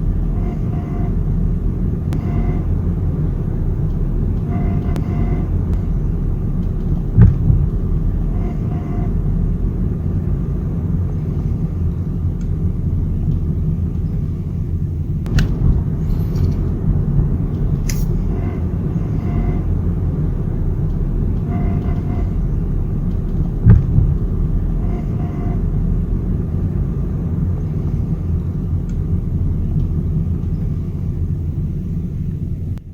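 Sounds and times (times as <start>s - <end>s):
car driving low rumble: 0.0s - 32.9s.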